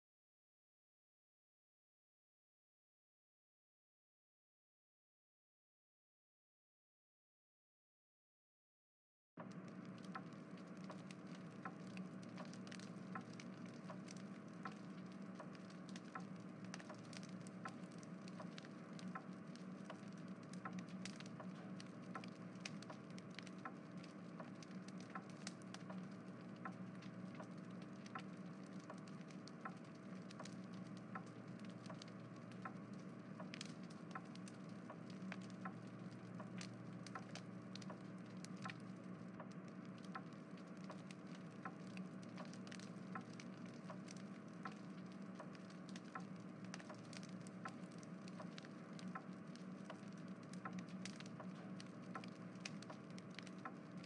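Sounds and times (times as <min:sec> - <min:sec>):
steady low hum: 0:09.4 - 0:54.0.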